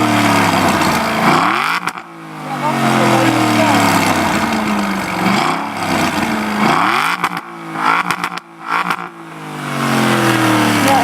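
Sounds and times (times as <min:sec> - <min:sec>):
car engine revving: 0:00.0 - 0:11.0
exhaust cracks: 0:00.0 - 0:11.0.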